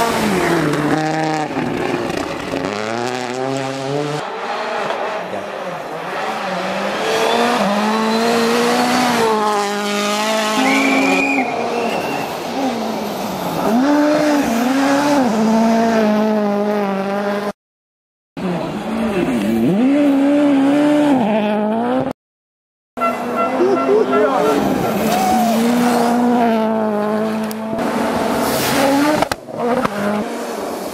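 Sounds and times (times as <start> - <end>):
another car revving: 0.0 - 17.6, 18.4 - 22.2, 23.1 - 30.9
rally car engine revving: 0.0 - 17.6, 18.4 - 22.2, 23.0 - 30.9.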